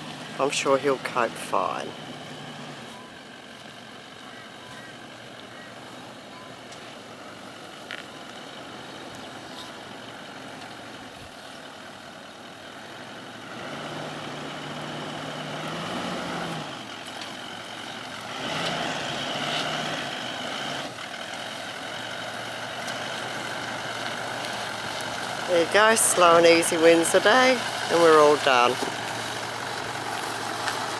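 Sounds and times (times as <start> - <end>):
vehicle engine climbing: 0.0 - 30.9.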